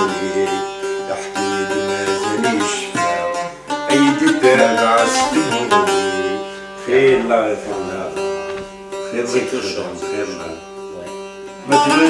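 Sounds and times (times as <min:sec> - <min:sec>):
plucked lute melody: 0:00.0 - 0:12.0.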